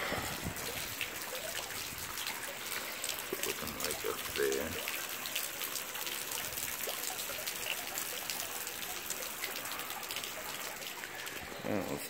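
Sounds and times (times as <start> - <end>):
rain falling on a flooded street: 0.0 - 12.0.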